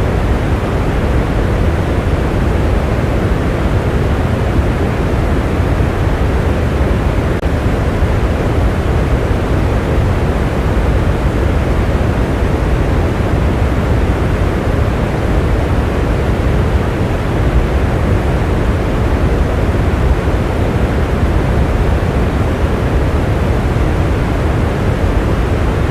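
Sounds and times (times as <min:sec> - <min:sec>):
heavy rain: 0:00.0 - 0:25.9.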